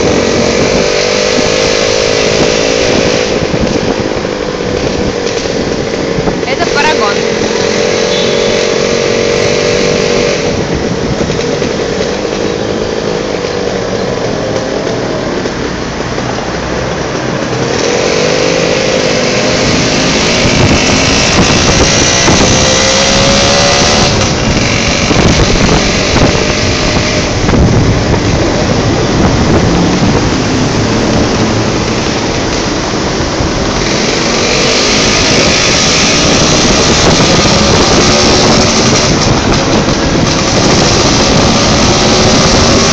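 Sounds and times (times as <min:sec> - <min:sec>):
loud rushing noise: 0:00.0 - 0:42.9
motorcycle engine: 0:00.0 - 0:42.9.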